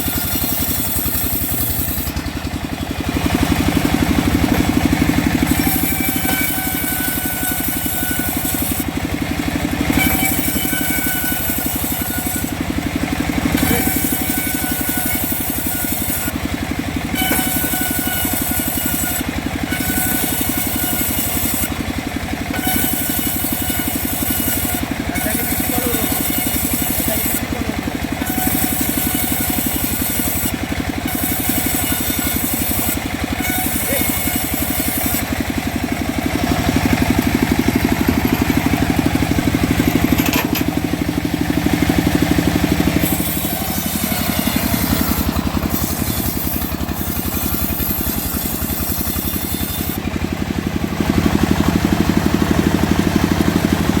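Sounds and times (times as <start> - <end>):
high hiss of sawing: 0.0 - 2.2, 3.4 - 9.0, 9.8 - 16.5, 17.1 - 21.8, 22.5 - 39.8, 41.8 - 50.1
saw machine engine running: 0.0 - 54.0.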